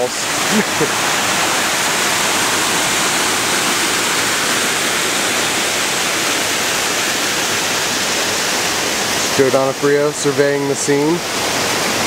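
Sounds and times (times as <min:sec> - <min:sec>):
water pouring over rock: 0:00.0 - 0:10.4.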